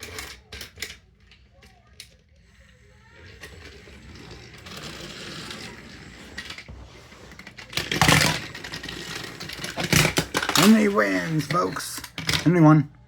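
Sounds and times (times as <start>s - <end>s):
toy train motors whirring: 0.0s - 12.6s.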